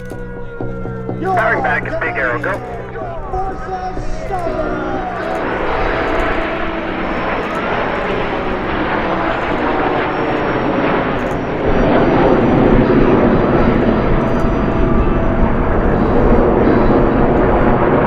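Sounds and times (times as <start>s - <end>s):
jet aircraft flying by: 0.0s - 18.0s.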